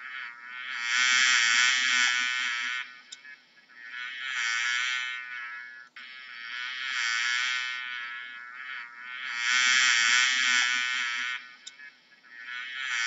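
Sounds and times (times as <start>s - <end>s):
bee buzzing in flight: 0.0s - 11.7s, 12.3s - 13.0s.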